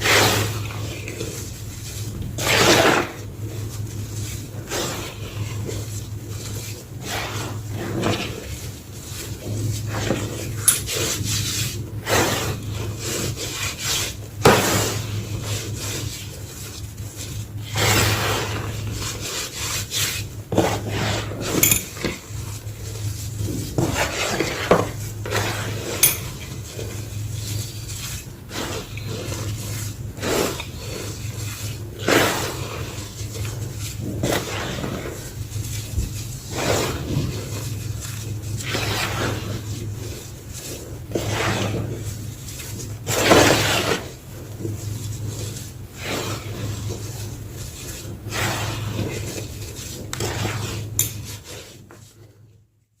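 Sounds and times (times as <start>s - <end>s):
low steady hum: 0.0s - 51.5s
chalk crunching and crumbling: 0.0s - 52.3s.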